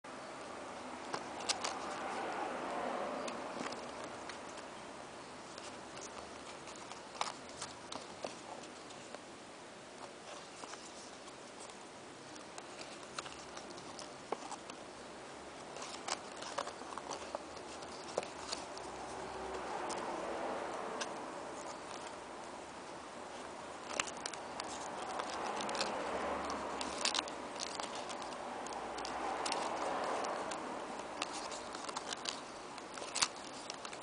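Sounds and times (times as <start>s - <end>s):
paper folds clicking: 1.0s - 2.3s, 5.5s - 9.2s, 10.0s - 14.8s, 15.6s - 22.5s, 23.3s - 34.0s
paper rustling: 1.0s - 4.7s, 5.4s - 9.2s, 10.0s - 14.8s, 15.5s - 34.0s.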